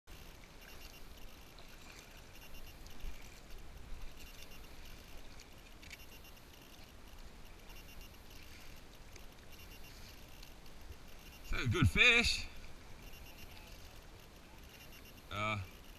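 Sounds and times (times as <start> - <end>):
water lapping against a kayak hull: 0.1 - 11.5, 12.1 - 15.9.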